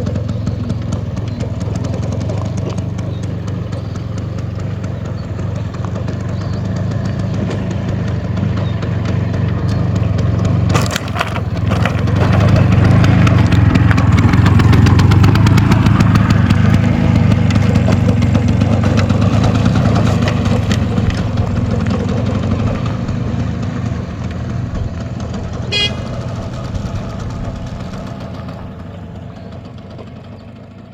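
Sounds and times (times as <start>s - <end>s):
scooter engine running: 0.0s - 30.9s.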